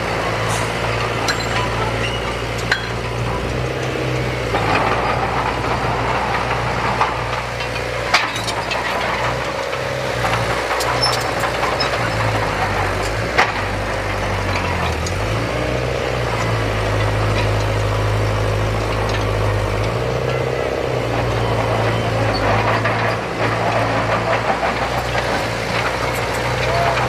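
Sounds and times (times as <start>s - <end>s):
heavy machinery engine running: 0.0s - 27.0s.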